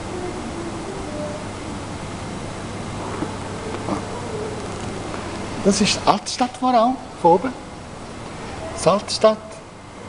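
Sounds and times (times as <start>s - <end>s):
room noise hiss: 0.0s - 10.0s.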